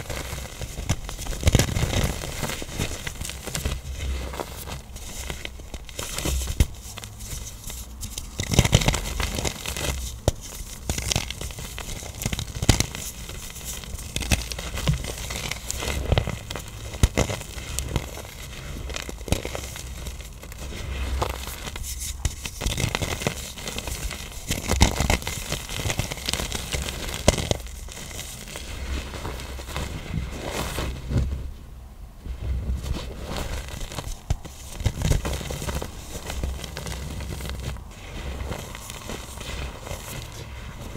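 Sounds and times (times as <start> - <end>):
powder blocks crunching: 0.0 - 31.1, 32.7 - 40.9.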